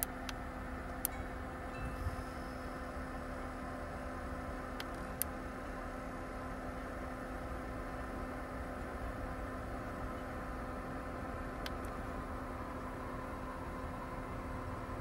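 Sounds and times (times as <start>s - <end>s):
car fridge humming: 0.0s - 15.0s.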